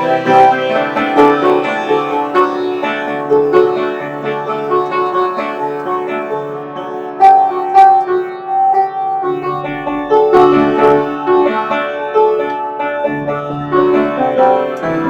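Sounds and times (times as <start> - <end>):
instrumental music: 0.0 - 15.0.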